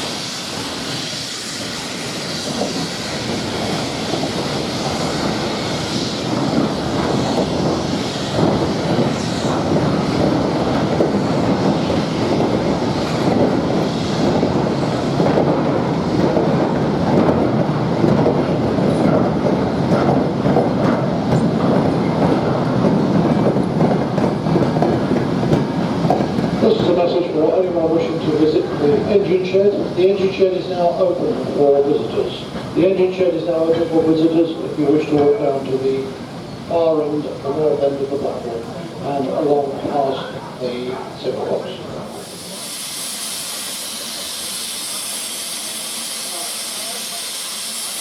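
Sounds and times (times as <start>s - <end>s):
train wheels clattering on track: 0.0s - 48.0s.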